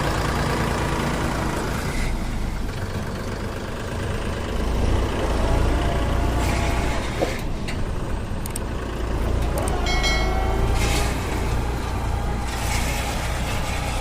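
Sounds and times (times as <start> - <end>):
tractor diesel engine rumble: 0.0 - 14.0.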